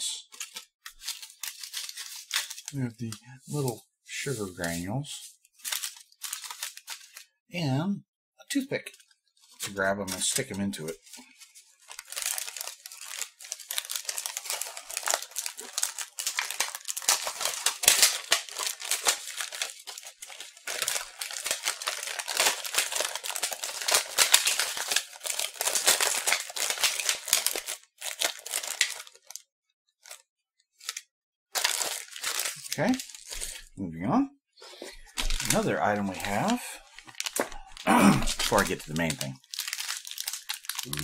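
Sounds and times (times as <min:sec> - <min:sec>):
plastic packaging crinkling: 0:00.2 - 0:03.7, 0:05.4 - 0:07.3, 0:08.8 - 0:29.4, 0:30.0 - 0:30.2, 0:30.8 - 0:33.7, 0:34.8 - 0:41.0.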